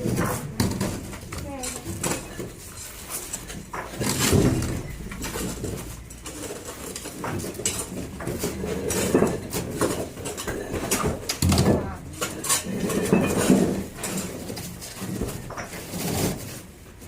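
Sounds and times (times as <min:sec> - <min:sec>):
clatter: 0:00.0 - 0:16.6.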